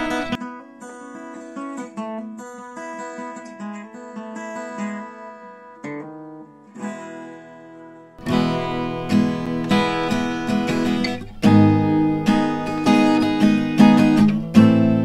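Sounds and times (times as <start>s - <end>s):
acoustic guitar plucked chords and notes: 0.0s - 15.0s.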